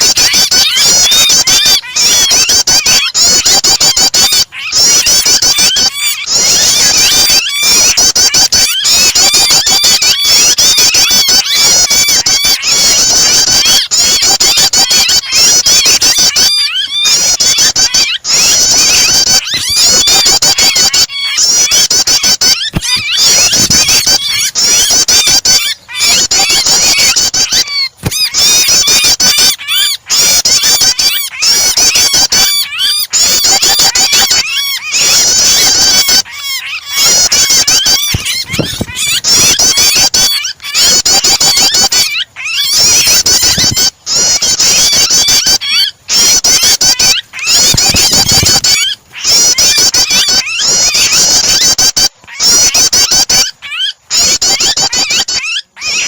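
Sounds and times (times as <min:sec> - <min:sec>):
bird distress cries: 0:00.0 - 0:56.0
prinia calls: 0:00.0 - 0:56.0.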